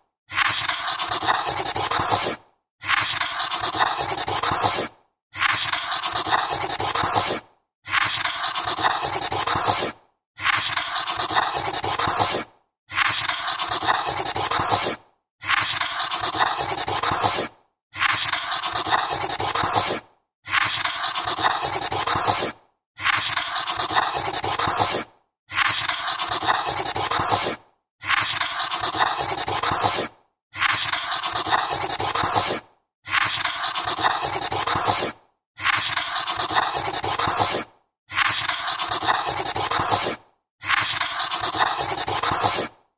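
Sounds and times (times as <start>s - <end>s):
marker scratching on paper: 0.3s - 22.5s, 23.1s - 42.7s.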